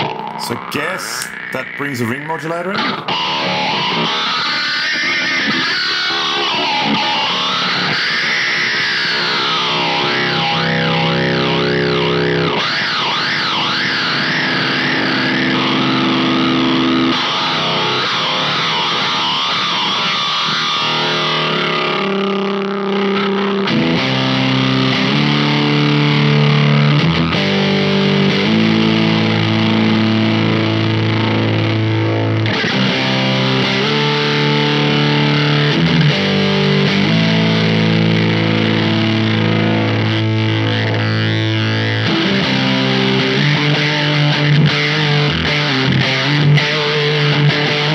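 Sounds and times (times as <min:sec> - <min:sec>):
distorted electric guitar chords: 0:00.0 - 0:47.9.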